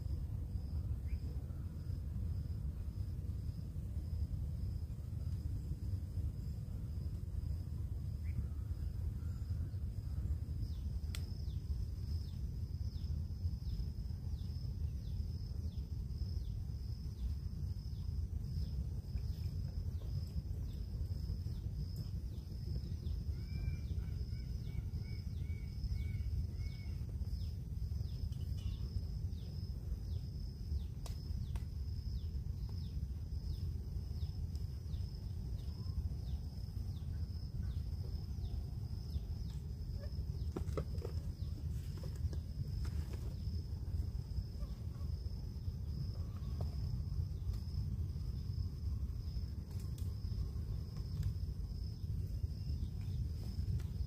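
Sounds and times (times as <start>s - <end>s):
insect drone with ticks: 0.0s - 54.0s
low steady rumble: 0.0s - 54.0s.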